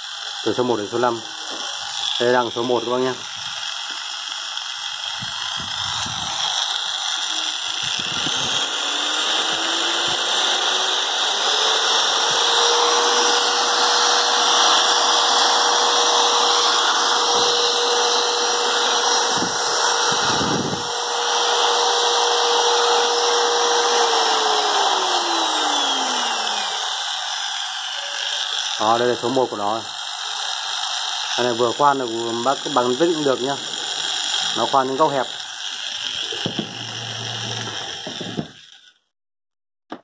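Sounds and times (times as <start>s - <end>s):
electric drill motor whine: 0.0s - 39.1s.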